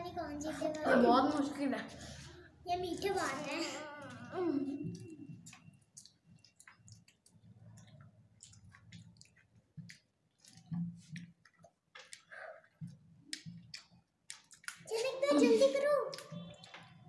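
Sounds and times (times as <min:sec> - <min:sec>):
children chewing and slurping: 0:00.2 - 0:17.0.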